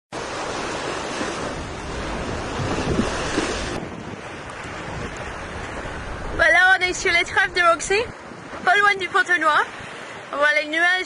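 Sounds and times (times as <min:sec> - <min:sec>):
water splashing along hull: 0:00.1 - 0:11.0
wind buffeting microphone: 0:00.2 - 0:10.0.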